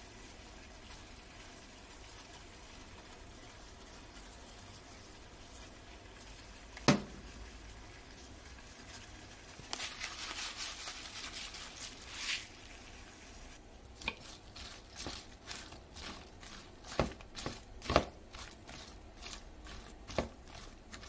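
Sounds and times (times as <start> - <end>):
seeds pattering in plastic bowl: 0.7 - 21.0.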